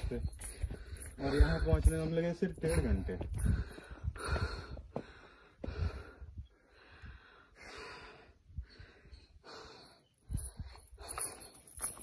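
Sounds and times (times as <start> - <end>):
person breathing heavily: 0.4 - 1.7, 2.8 - 12.0.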